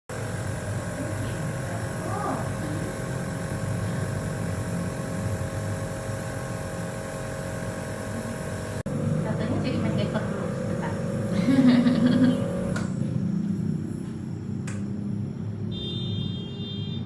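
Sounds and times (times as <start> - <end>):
nebulizer compressor humming: 0.0 - 17.0.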